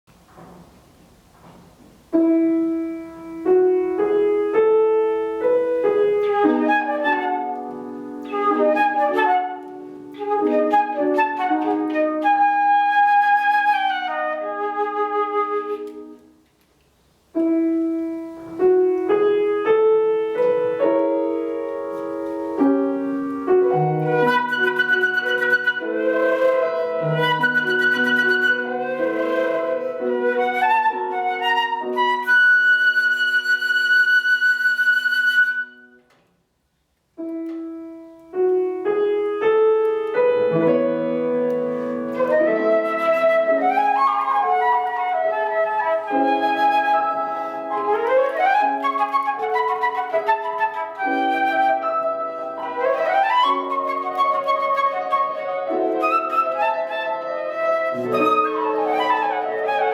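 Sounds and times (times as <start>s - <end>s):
piano accompaniment: 0.0s - 36.2s, 37.1s - 59.9s
flute: 2.3s - 16.4s, 17.4s - 36.2s, 38.9s - 59.9s.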